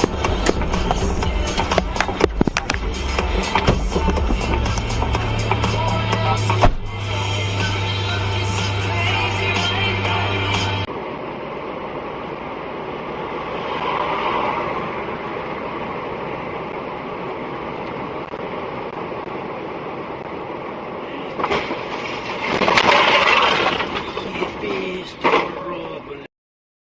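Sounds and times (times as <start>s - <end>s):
vehicle and road noise: 0.0s - 26.3s.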